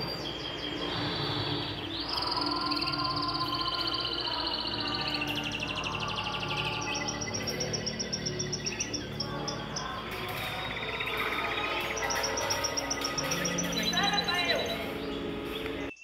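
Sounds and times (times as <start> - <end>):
ambient background music: 0.0 - 16.0
canary trilling: 0.0 - 16.0.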